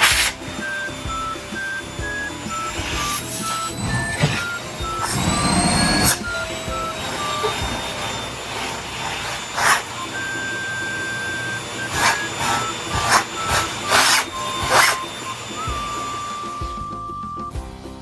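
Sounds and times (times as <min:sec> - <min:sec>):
vacuum cleaner running: 0:00.0 - 0:17.4.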